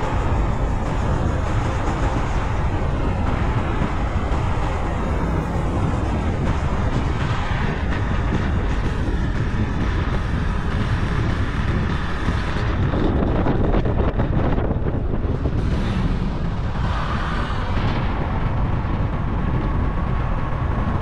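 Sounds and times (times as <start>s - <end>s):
moving vehicle rumble: 0.0s - 21.0s
wind noise on microphone: 0.0s - 21.0s.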